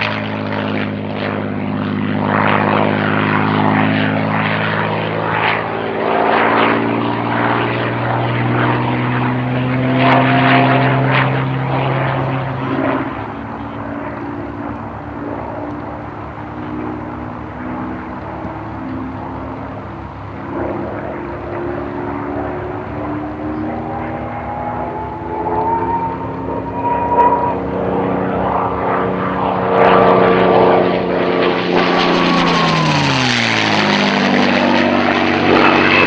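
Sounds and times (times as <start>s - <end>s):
propeller plane flying past: 0.0s - 36.0s.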